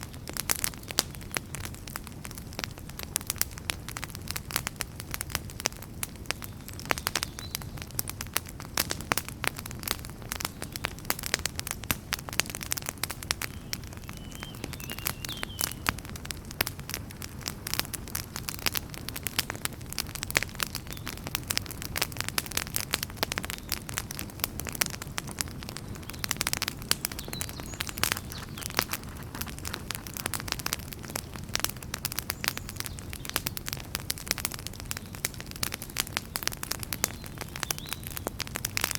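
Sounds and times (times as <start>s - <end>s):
logs crackling and popping: 0.0s - 38.9s
low rumble of flames: 0.0s - 38.9s.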